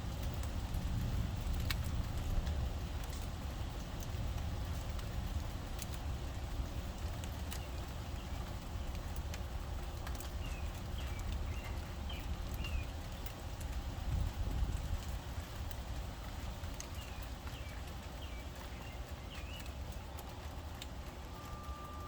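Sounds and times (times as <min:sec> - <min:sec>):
constant low rumble: 0:00.0 - 0:22.0
steady rain: 0:00.0 - 0:22.0
drips ticking: 0:00.2 - 0:22.0.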